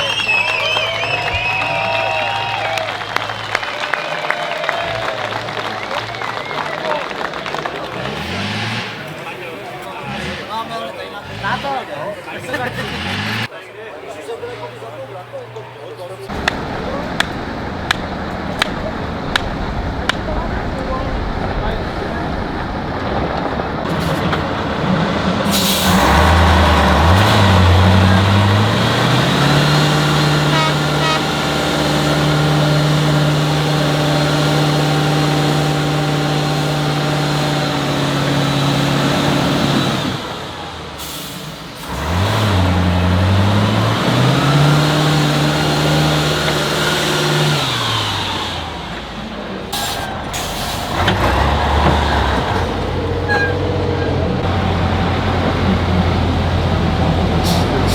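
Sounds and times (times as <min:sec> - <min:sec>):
truck engine revving hard: 0:00.0 - 0:13.5, 0:16.2 - 0:57.9.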